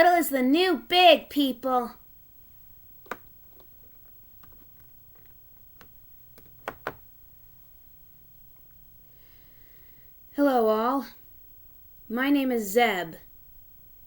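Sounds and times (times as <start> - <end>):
room hiss: 0.0 - 14.0.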